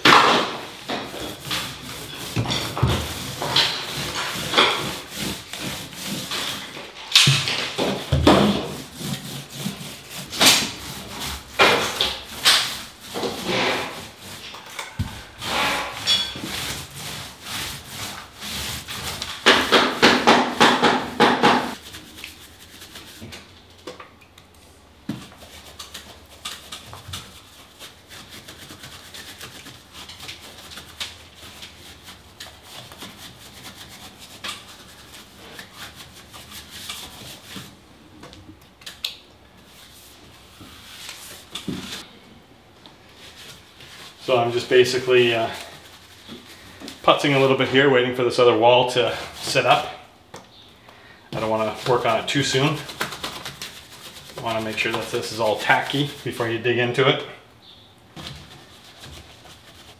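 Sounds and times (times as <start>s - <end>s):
paint roller rasping on wall: 0.0s - 23.5s, 25.1s - 37.8s, 43.2s - 50.0s, 51.3s - 57.1s, 58.2s - 59.9s.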